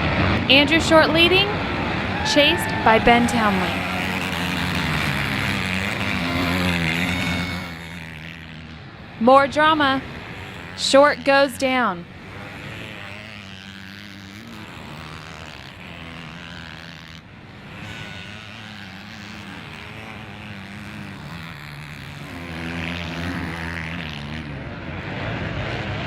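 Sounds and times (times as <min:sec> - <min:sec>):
motocross bike engines racing: 0:00.0 - 0:26.0.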